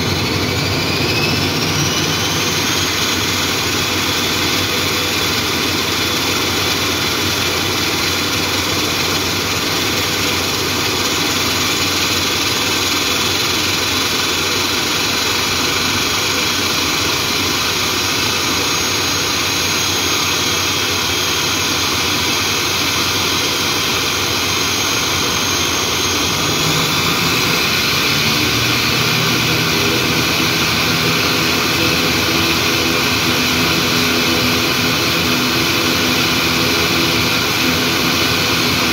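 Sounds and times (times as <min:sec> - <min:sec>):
low propeller beat: 0:00.0 - 0:38.9
turbine whine: 0:00.0 - 0:38.9.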